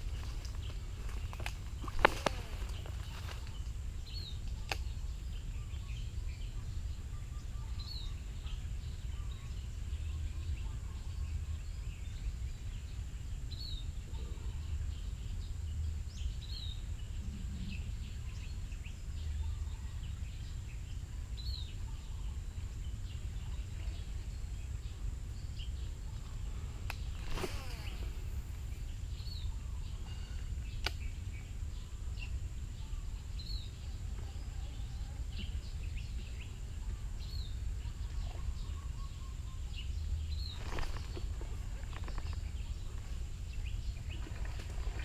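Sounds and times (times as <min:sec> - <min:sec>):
bird chirping: 0:00.0 - 0:45.0
steady low rumble: 0:00.0 - 0:45.0.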